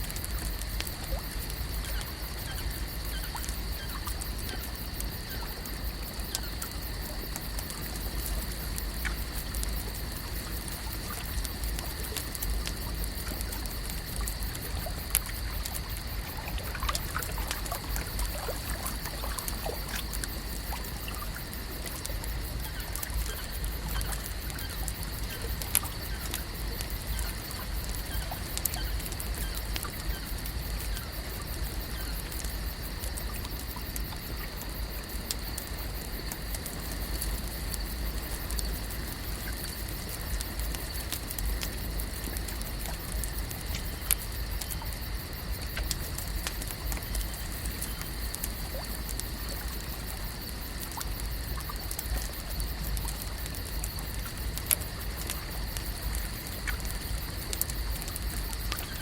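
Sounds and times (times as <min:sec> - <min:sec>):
small clicks and drips: 0:00.0 - 0:59.0
water trickling and lapping: 0:00.0 - 0:59.0.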